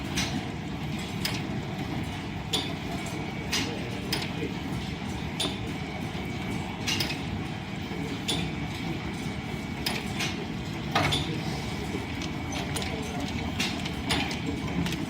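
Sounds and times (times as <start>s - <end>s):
lathe belt drive rumble: 0.0s - 15.0s.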